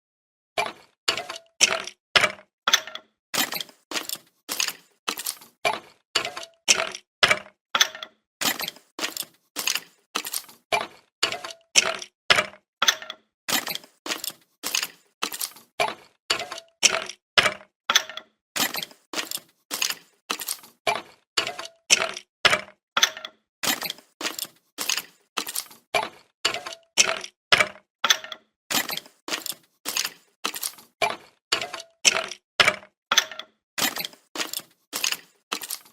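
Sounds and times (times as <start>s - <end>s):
bones clattering and cracking: 0.6s - 35.9s.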